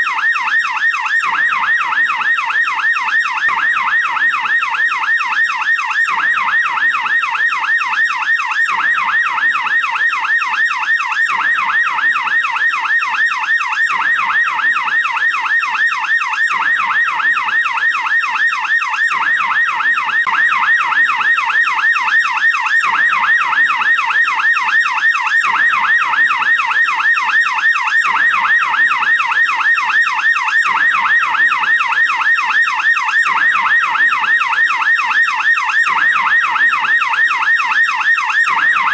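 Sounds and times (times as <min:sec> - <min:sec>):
police siren yelp: 0:00.0 - 0:38.9.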